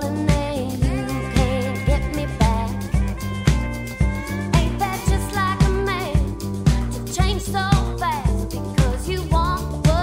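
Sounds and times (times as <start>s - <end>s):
bass: 0.0s - 10.0s
drums: 0.0s - 10.0s.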